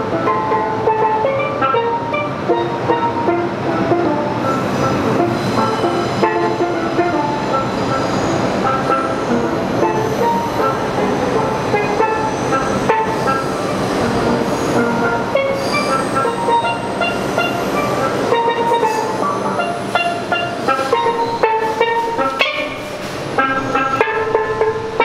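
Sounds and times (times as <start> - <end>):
steel pans played with mallets: 0.0 - 25.0
subway train running: 0.0 - 25.0.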